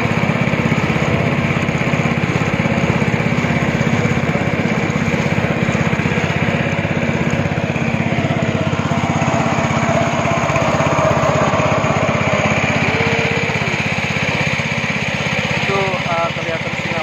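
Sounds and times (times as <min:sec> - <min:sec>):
speedboat engine running: 0:00.0 - 0:17.0.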